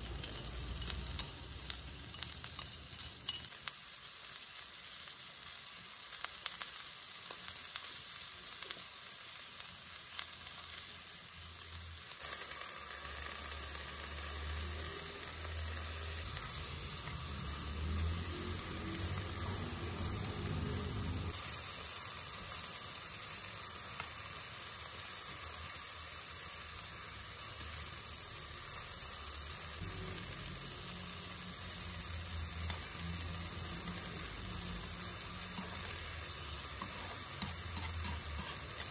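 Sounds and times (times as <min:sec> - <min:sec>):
vegetables sizzling in a wok: 0:00.0 - 0:38.9.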